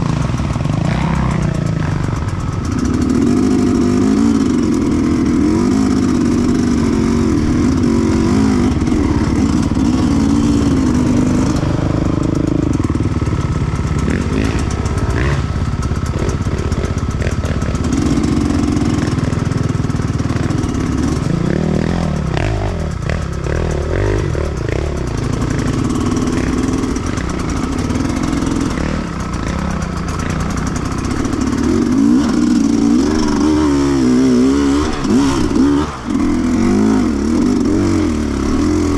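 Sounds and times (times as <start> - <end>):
bike rattling on rough ground: 0.0 - 38.9
motorcycle engine revving: 0.0 - 38.9.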